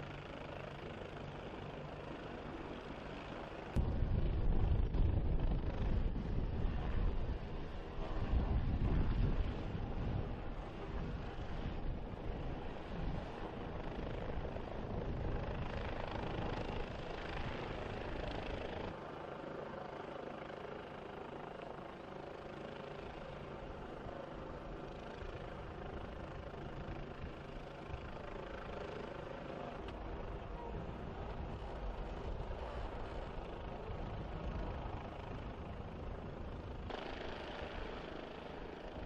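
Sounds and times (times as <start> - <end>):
helicopter turbine and rotor: 0.0 - 39.0.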